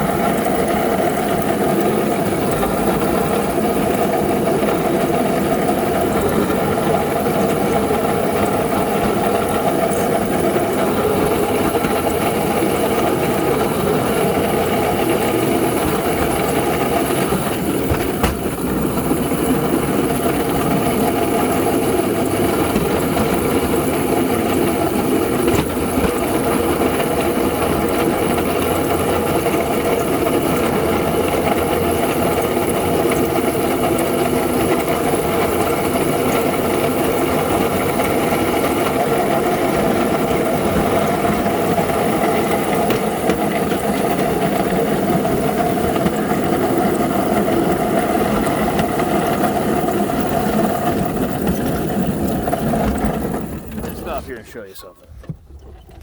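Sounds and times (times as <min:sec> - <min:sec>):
small locomotive engine running: 0:00.0 - 0:55.3.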